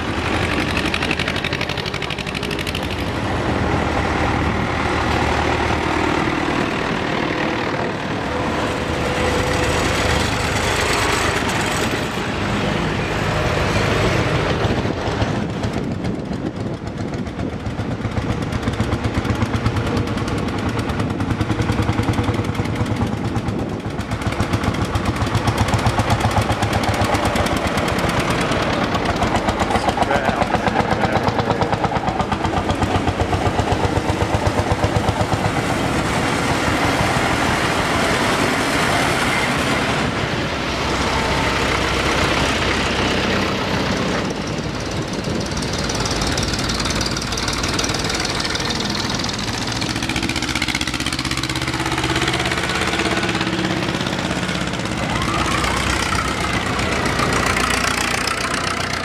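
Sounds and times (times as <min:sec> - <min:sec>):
tractor engines driving past: 0:00.0 - 0:59.0.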